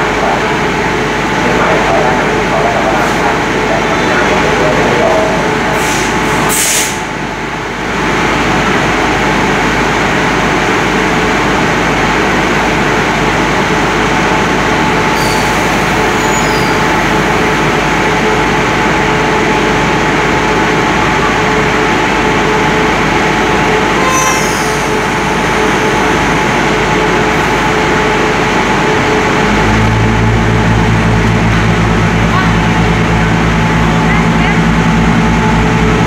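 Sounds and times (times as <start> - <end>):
train machinery droning: 0.0 - 36.0.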